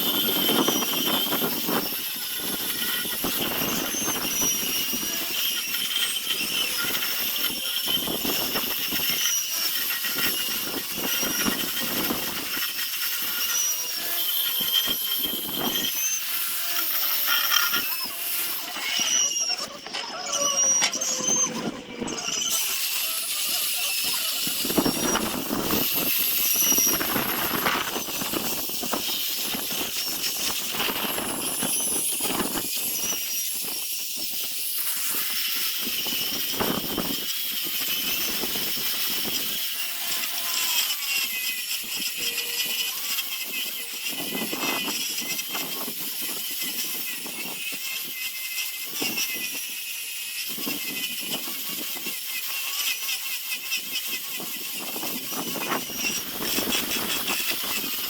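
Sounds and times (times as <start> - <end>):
power sander grinding wood: 0.0 - 58.0.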